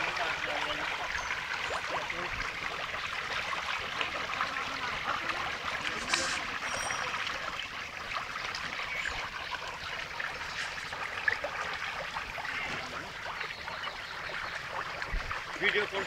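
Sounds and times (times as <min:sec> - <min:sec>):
fizzing water with small splashes: 0:00.0 - 0:16.0.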